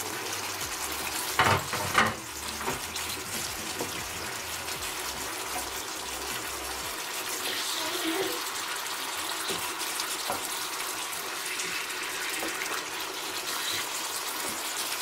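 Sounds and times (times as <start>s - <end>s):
sauce simmering in a frying pan: 0.0s - 15.0s.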